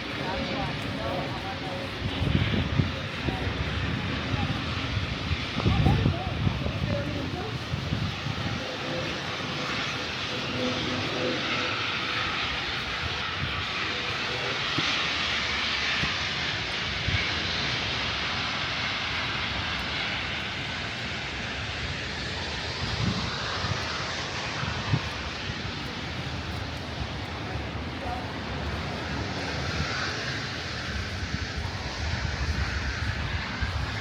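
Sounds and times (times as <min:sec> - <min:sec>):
plane engine roar overhead: 0:00.0 - 0:34.0.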